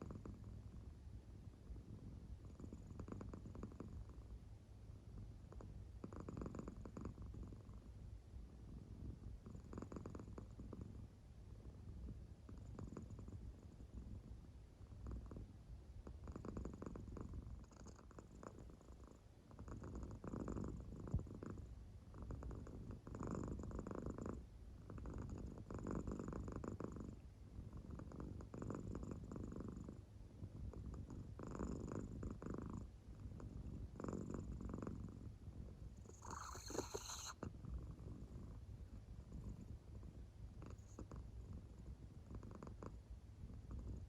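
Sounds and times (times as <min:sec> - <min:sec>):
cat purring softly: 0:00.0 - 0:44.0.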